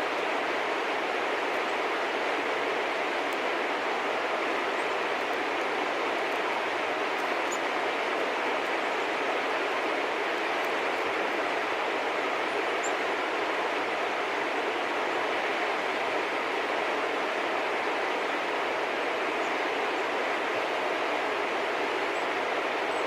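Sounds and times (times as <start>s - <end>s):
rushing background noise: 0.0s - 23.0s.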